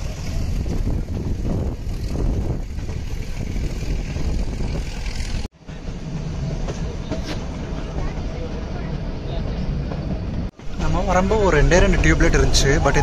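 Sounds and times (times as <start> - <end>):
moving train coach rumble: 0.0 - 13.0.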